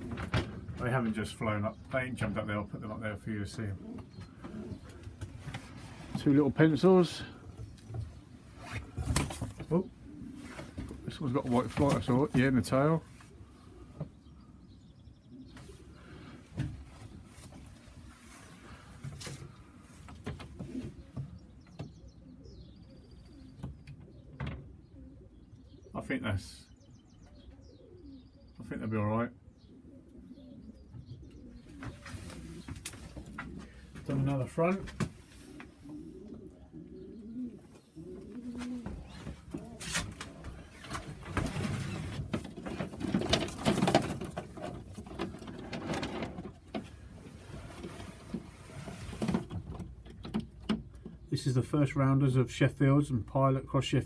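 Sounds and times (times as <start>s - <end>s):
pigeons cooing: 0.0s - 52.2s.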